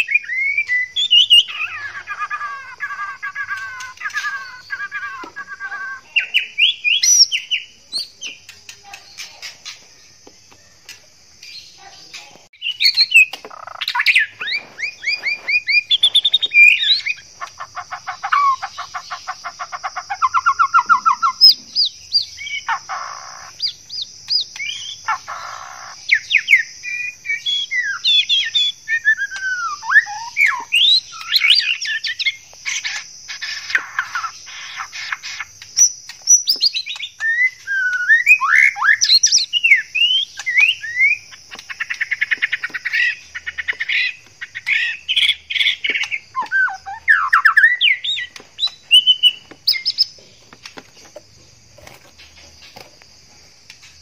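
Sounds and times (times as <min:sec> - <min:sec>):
bird singing whistled phrases and trills: 0:00.0 - 0:09.9, 0:11.4 - 0:50.2.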